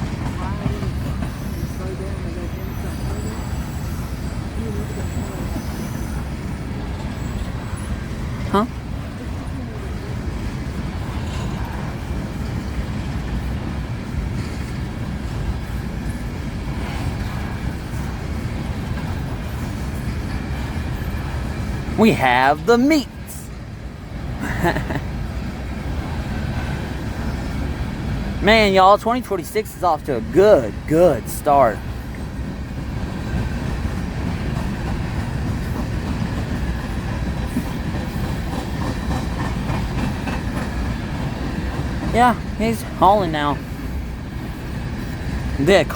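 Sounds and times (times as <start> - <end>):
freight train cars rolling past: 0.0 - 45.9.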